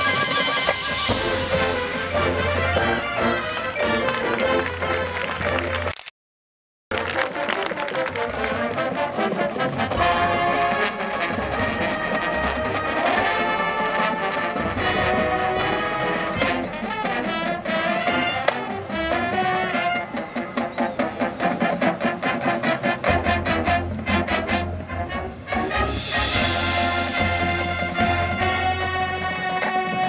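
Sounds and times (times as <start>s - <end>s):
marching band playing: 0.0s - 5.9s, 6.9s - 30.0s.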